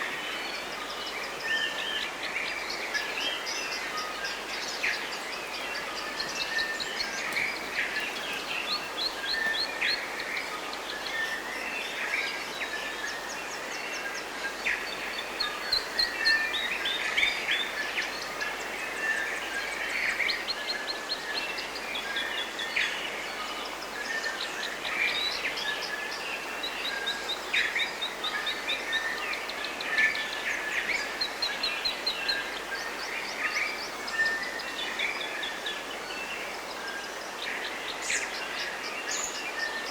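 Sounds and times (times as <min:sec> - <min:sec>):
background hiss: 0:00.0 - 0:39.9
birds singing and trilling: 0:00.0 - 0:39.9.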